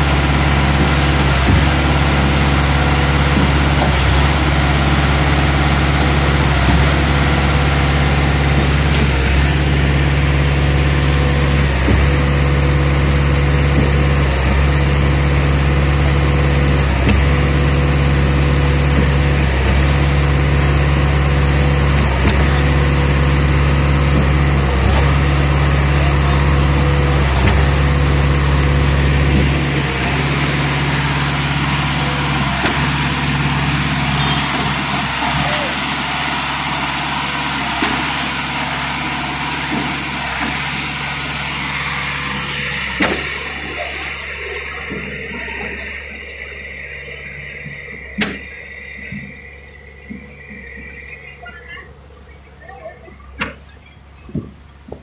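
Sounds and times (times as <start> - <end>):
concrete pump knocking: 0.0 - 46.8, 47.4 - 51.1, 53.3 - 55.0
diesel engine running: 0.0 - 55.0.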